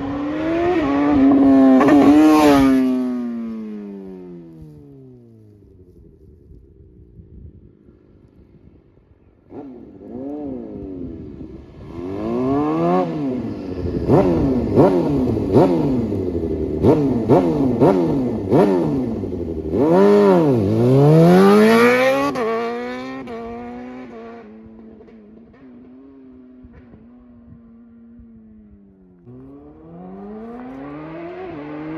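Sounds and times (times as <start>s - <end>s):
motorcycle engine accelerating hard: 0.0s - 6.6s, 9.4s - 31.9s.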